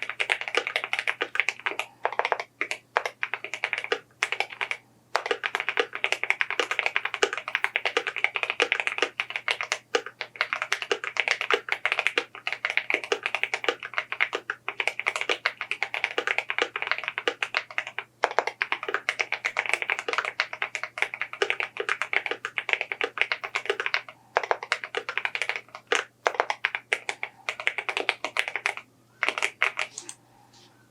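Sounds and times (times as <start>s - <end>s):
mechanical keyboard typing: 0.0s - 30.2s
faint low hum: 0.0s - 30.9s.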